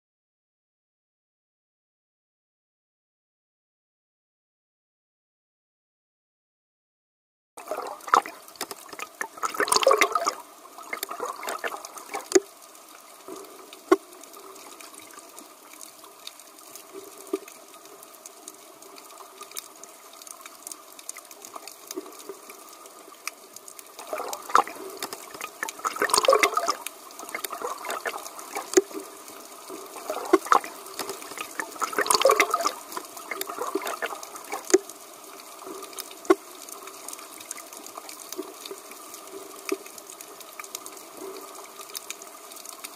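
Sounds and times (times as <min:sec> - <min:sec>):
steady underwater hiss: 0:07.6 - 0:42.9
underwater bubbles gurgling: 0:07.6 - 0:42.9.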